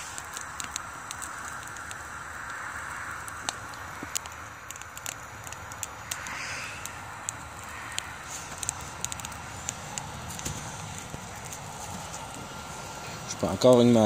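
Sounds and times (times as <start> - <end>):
fan-fed fire rushing: 0.0 - 14.0
wood crackling and popping: 0.0 - 14.0.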